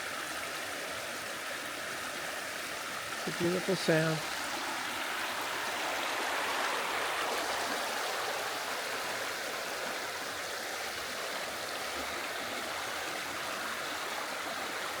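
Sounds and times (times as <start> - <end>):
stream splashing over rocks: 0.0 - 15.0.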